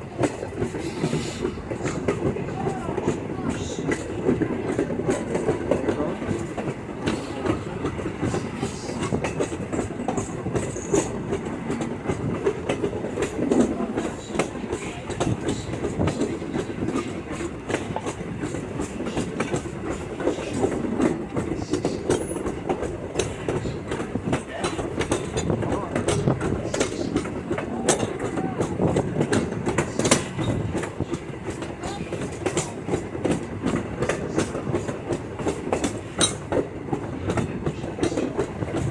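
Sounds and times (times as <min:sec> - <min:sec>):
clacks over rail joints: 0:00.0 - 0:38.9
train wheels rumbling on rail: 0:00.0 - 0:38.9.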